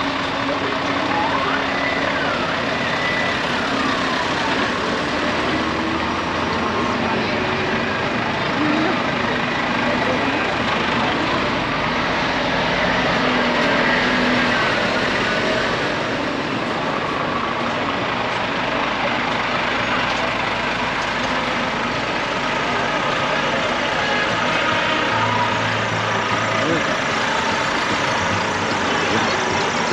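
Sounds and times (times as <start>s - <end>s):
diesel lorry engines idling: 0.0s - 29.9s.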